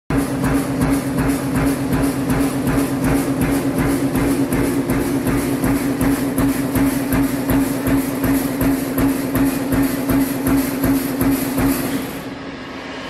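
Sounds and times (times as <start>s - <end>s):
press humming: 0.1s - 12.2s
punch press striking steel: 0.1s - 12.3s.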